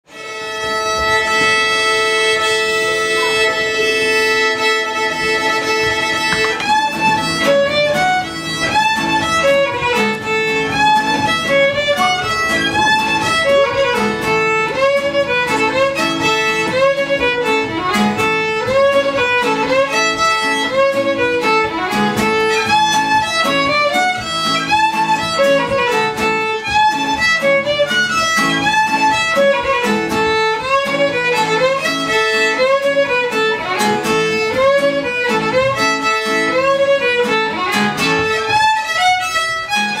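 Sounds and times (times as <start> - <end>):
fiddle melody: 0.0 - 40.0
plucked string accompaniment: 0.0 - 40.0
upright bass: 3.0 - 36.0.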